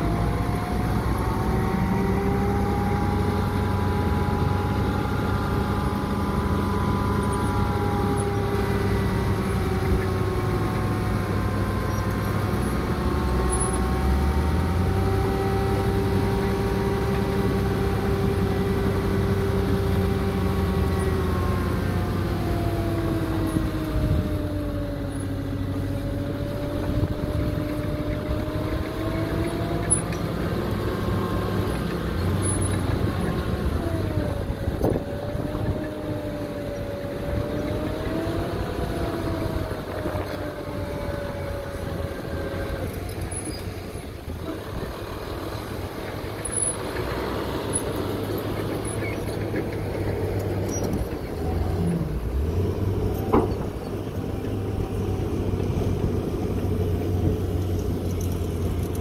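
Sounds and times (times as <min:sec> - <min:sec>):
diesel engine running at raised revs: 0:00.0 - 0:59.0.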